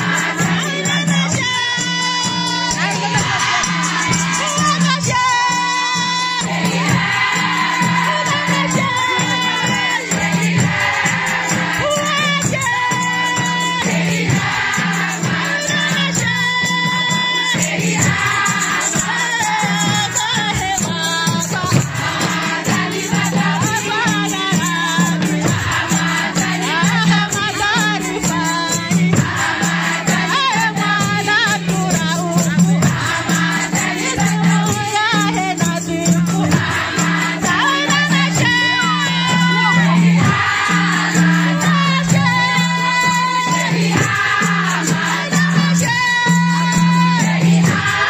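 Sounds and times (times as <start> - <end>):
rattling percussion: 0.0 - 48.0
women singing in chorus: 0.0 - 48.0.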